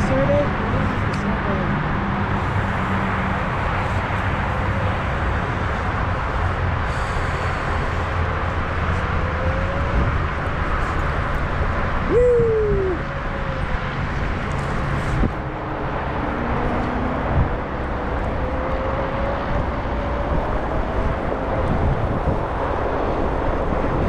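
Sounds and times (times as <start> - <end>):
wind and tyre noise: 0.0 - 24.0.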